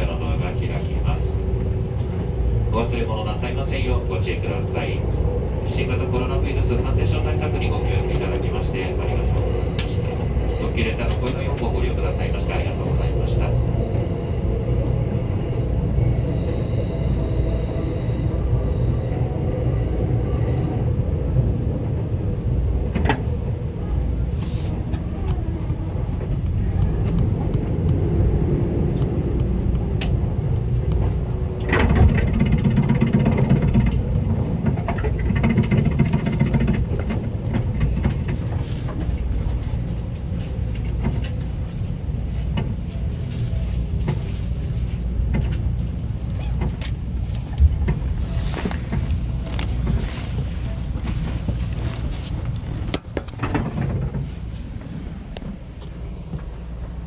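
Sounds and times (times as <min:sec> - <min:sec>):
train equipment humming: 0:00.0 - 0:57.0
train rumbling: 0:00.0 - 0:57.0.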